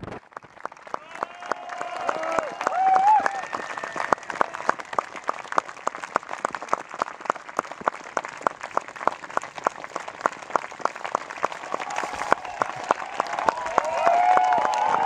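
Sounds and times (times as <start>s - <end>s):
audience applauding: 0.0s - 15.0s
close hands clapping: 0.0s - 15.0s.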